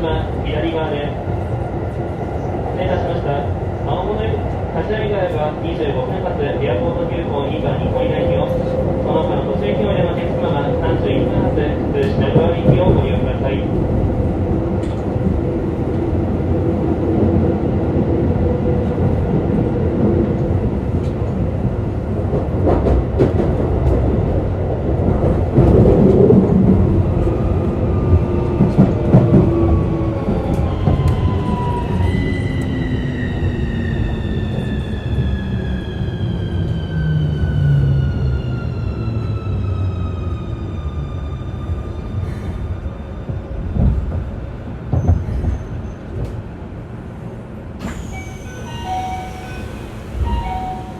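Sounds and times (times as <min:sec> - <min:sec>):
train track rumble: 0:00.0 - 0:50.9.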